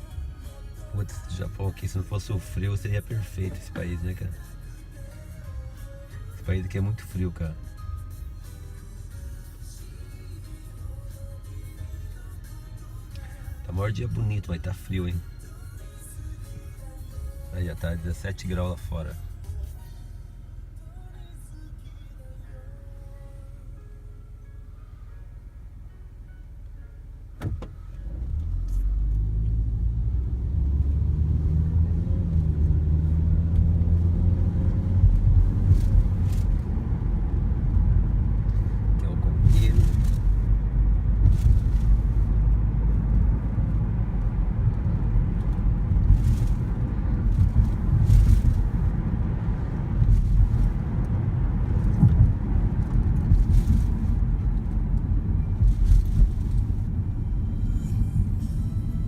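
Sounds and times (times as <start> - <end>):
car engine rumble: 0.0 - 59.0
road noise: 0.0 - 59.0.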